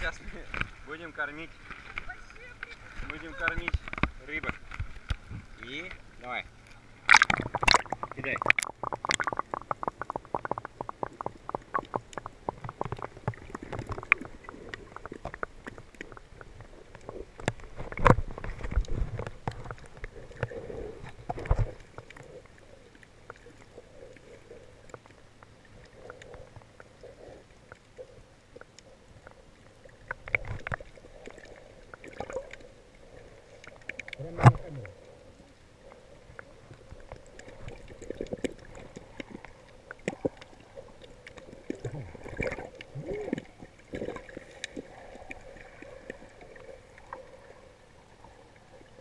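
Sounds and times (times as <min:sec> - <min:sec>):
muffled water sloshing and gurgling: 0:00.0 - 0:49.0.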